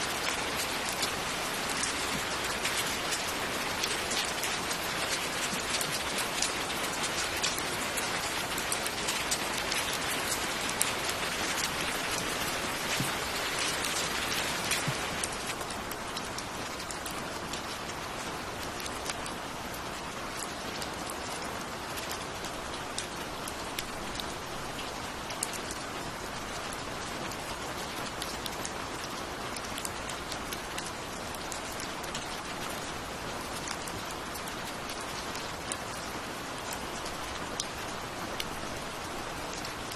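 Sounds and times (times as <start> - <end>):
rain falling: 0.0 - 39.9
raindrops ticking on hard surface: 0.0 - 39.9.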